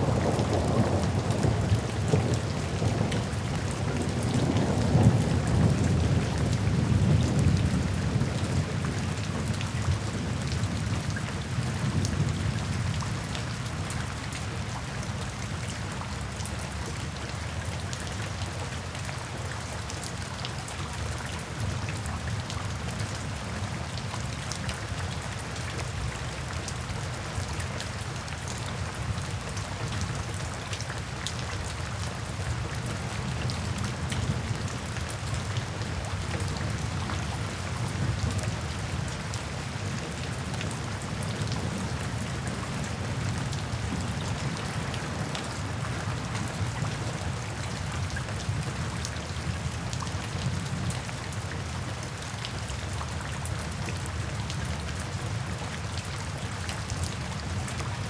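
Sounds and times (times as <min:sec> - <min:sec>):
steady rain hiss: 0:00.0 - 0:16.4, 0:21.4 - 0:52.7.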